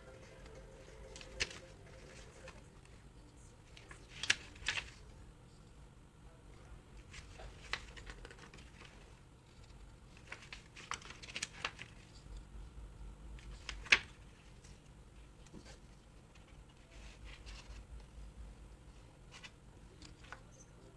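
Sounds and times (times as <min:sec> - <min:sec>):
paper and card rustling: 0:00.0 - 0:05.2, 0:07.0 - 0:12.4, 0:13.4 - 0:18.2, 0:18.8 - 0:20.9.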